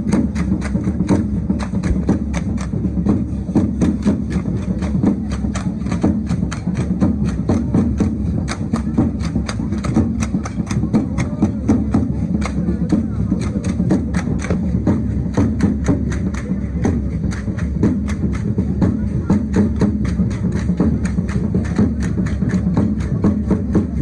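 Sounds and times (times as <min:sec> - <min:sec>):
drum beating steadily: 0:00.0 - 0:24.0.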